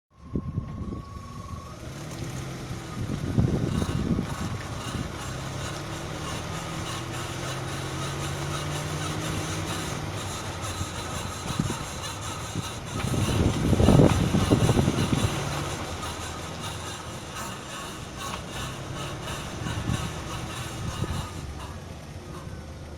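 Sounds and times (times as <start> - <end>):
car engine humming: 0.2 - 22.9
wheel squeaking: 0.6 - 22.9.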